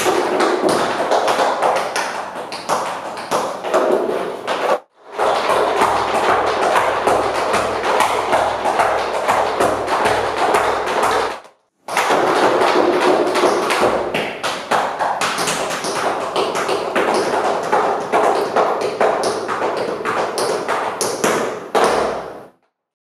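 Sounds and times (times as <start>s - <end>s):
tap shoes striking floor: 0.0s - 22.5s.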